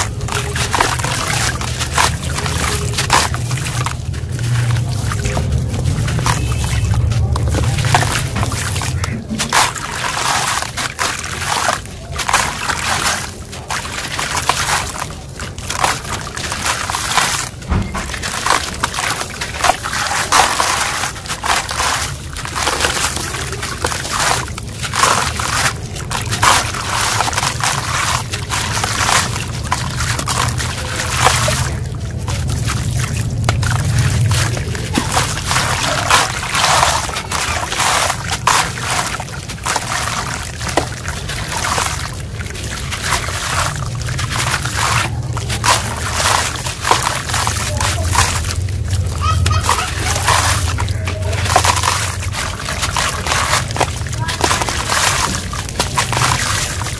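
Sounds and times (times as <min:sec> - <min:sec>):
concrete crumbling by hand: 0:00.0 - 0:56.9
grit pouring into water: 0:00.0 - 0:56.9.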